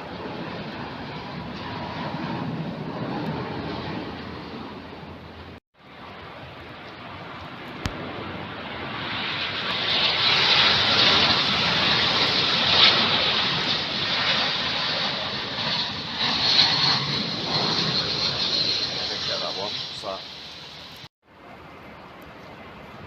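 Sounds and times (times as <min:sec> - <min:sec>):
jet engines roaring overhead: 0:00.0 - 0:23.0.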